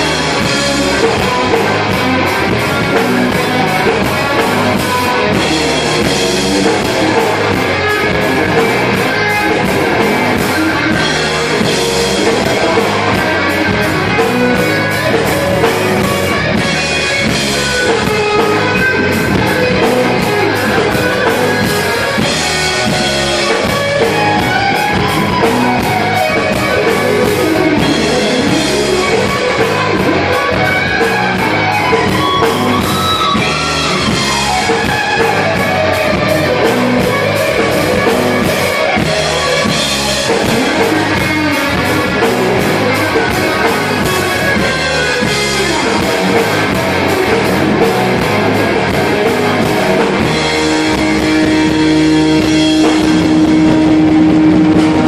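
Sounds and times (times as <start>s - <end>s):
drums: 0.0s - 55.0s
electric guitar solo: 0.0s - 55.0s.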